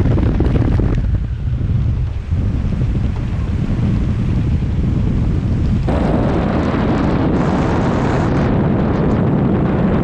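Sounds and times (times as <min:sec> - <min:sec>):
airflow rushing over camera: 0:00.0 - 0:10.0.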